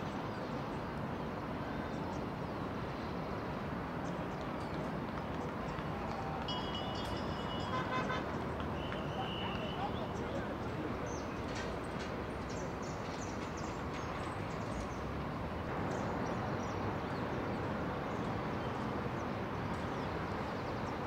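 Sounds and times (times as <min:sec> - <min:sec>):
outdoor noise: 0:00.0 - 0:21.0.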